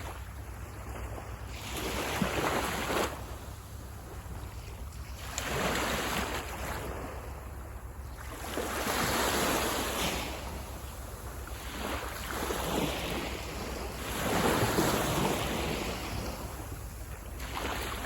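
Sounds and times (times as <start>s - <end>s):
low surf rumble: 0.0s - 18.0s
small waves breaking on sand: 0.0s - 18.0s.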